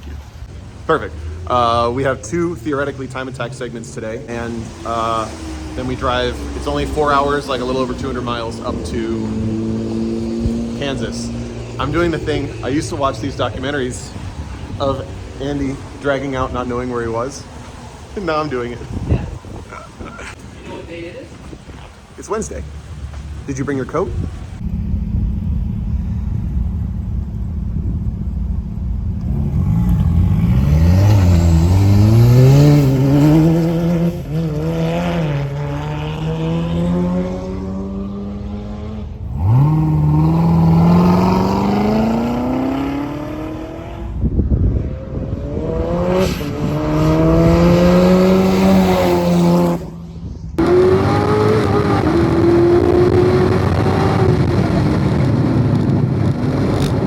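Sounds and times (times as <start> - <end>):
car engine at full throttle: 0.0 - 20.4, 22.8 - 57.0.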